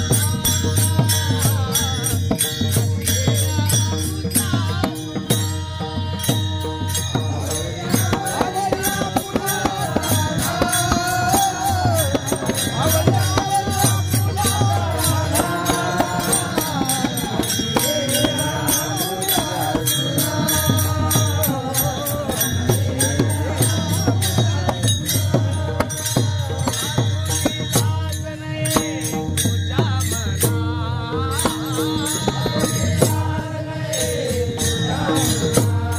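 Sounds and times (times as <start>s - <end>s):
hand cymbals clashing: 0.0s - 35.9s
hand drum beating: 0.0s - 35.9s
men singing devotional song: 0.0s - 35.9s.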